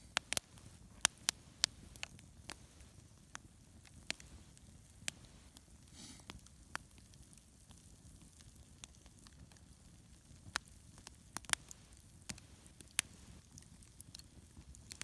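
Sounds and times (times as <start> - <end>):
campfire popping and snapping: 0.0 - 15.0
flames rustling: 0.0 - 15.0.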